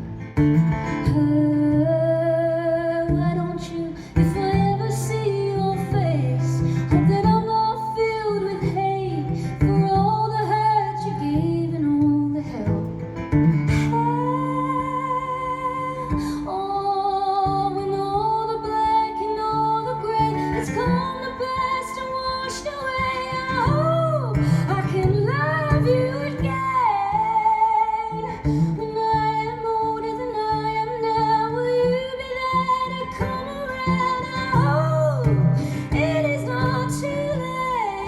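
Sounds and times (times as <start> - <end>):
acoustic guitar: 0.0 - 38.0.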